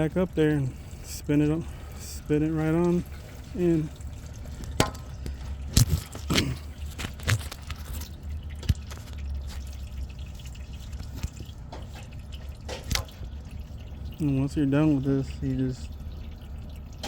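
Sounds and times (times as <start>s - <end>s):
fluid dripping: 0.0s - 17.0s
steady low hum: 0.0s - 17.0s.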